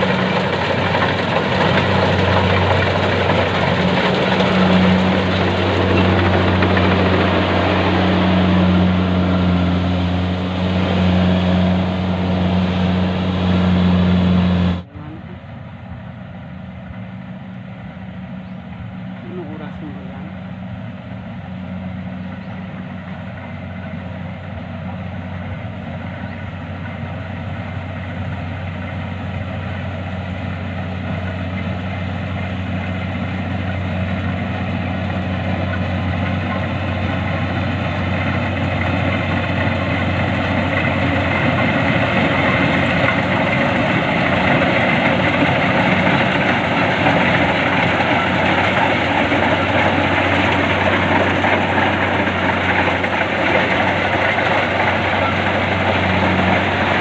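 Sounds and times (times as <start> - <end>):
harvester engine running: 0.0 - 57.0.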